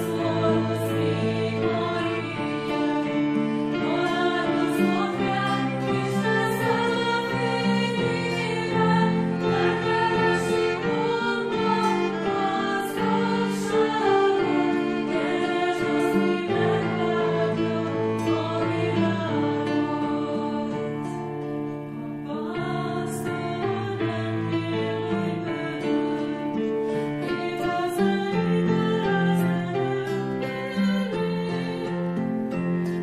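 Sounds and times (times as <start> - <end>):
instrumental accompaniment: 0.0 - 33.0
women singing a duet: 0.0 - 33.0.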